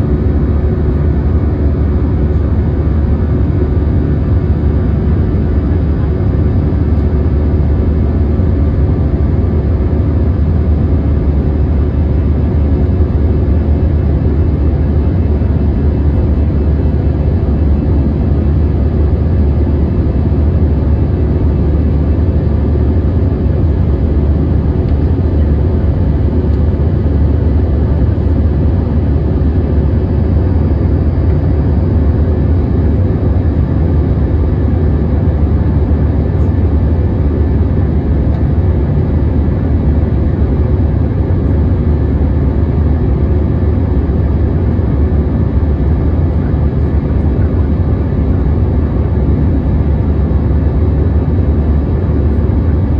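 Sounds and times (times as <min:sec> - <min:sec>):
jet engine rumble in cabin: 0:00.0 - 0:52.9.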